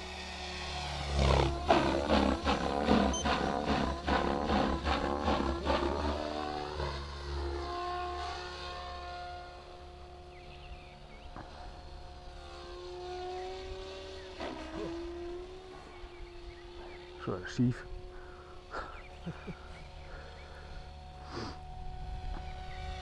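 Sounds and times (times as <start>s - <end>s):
rc helicopter rotor whine: 0.0s - 23.0s.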